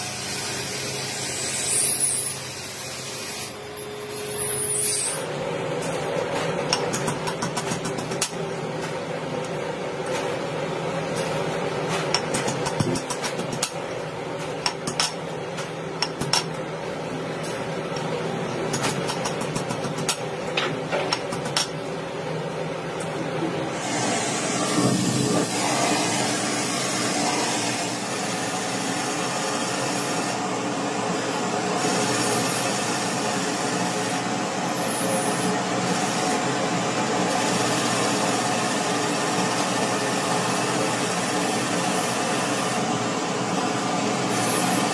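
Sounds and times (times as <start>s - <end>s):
workshop machine humming: 0.0s - 44.9s.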